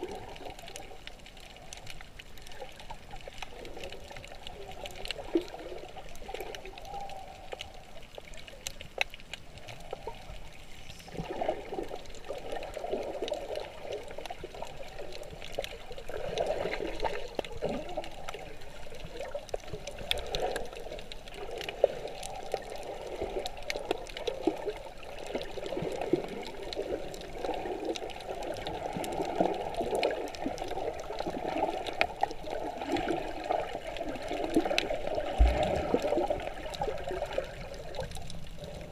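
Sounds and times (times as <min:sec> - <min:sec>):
muffled underwater sloshing: 0:00.0 - 0:38.9
small clicks underwater: 0:00.0 - 0:38.9.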